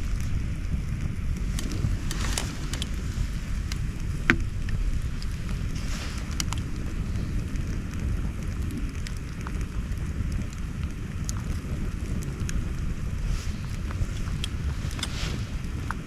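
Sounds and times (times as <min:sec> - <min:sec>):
campfire crackling and popping: 0:00.0 - 0:16.0
fire low rumble: 0:00.0 - 0:16.0.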